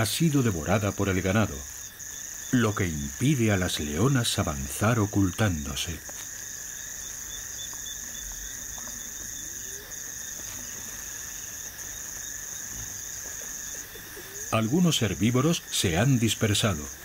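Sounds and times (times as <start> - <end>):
crickets trilling: 0.0 - 17.0
high-pitched cricket trill: 0.0 - 17.0.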